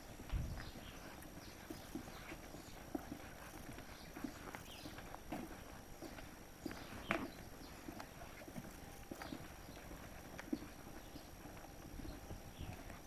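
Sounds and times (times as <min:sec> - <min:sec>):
footsteps on hard street: 0:00.0 - 0:13.0.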